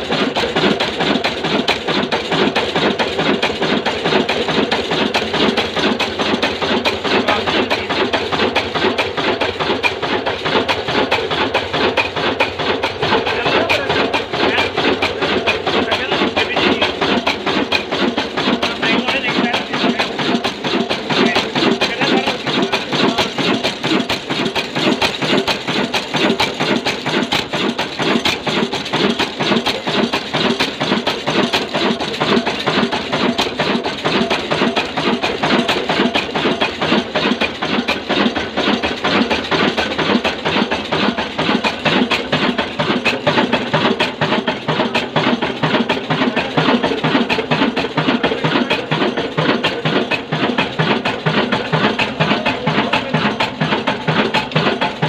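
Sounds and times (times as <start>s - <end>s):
stationary diesel engine running: 0.0s - 55.0s.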